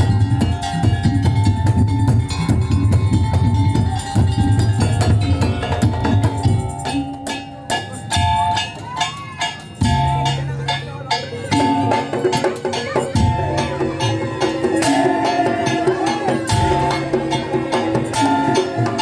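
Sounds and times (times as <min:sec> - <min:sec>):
drums beating: 0:00.0 - 0:19.0
wooden slit drum beats: 0:00.0 - 0:19.0.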